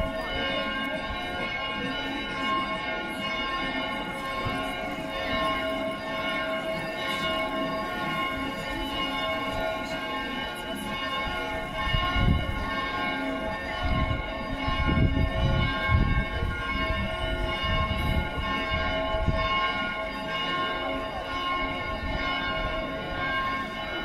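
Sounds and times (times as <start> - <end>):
church bells pealing: 0.0 - 24.0.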